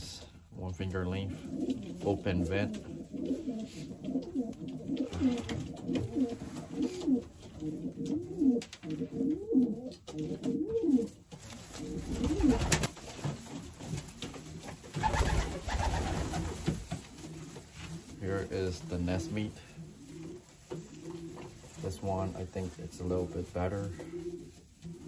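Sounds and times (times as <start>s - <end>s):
pigeons cooing: 1.1s - 12.9s, 14.4s - 25.0s.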